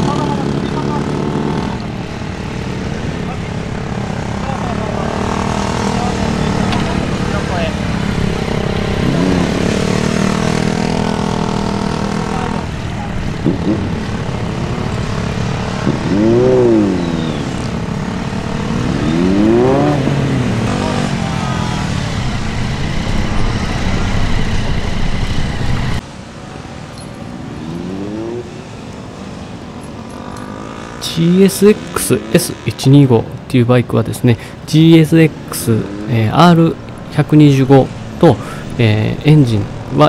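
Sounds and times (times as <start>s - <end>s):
motorcycle engine revving: 0.0s - 26.0s, 27.0s - 33.0s, 35.3s - 40.0s.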